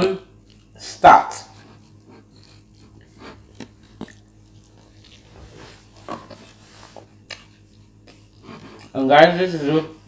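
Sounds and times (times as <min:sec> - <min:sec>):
chewing: 0:00.4 - 0:09.0.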